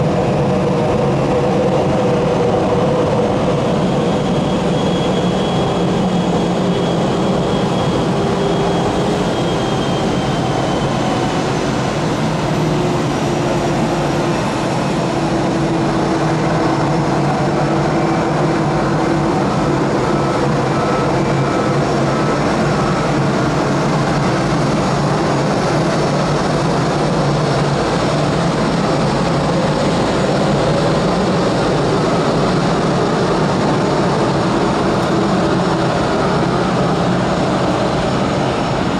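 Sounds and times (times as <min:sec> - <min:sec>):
jet engines rumbling and whining: 0:00.0 - 0:38.9.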